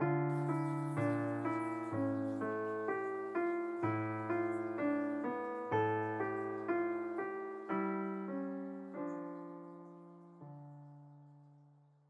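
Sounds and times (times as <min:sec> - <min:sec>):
piano notes ringing: 0:00.0 - 0:11.8.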